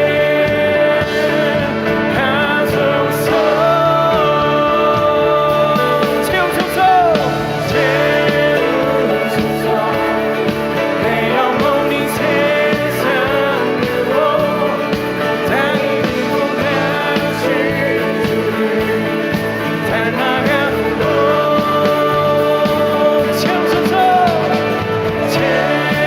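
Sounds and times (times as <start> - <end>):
instrumental accompaniment: 0.0 - 26.0
person singing: 0.0 - 26.0
worship song: 0.0 - 26.0.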